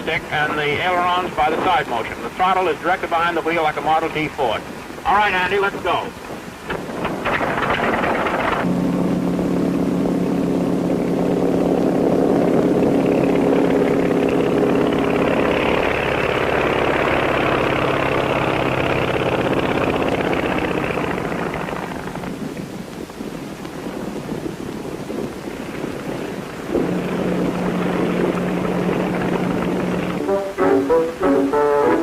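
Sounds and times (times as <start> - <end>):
light airplane engine: 6.1 - 32.0.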